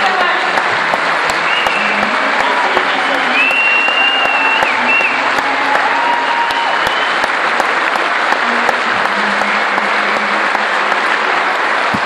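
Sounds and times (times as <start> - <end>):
audience applauding: 0.0 - 12.0
sharp close claps: 0.0 - 12.0.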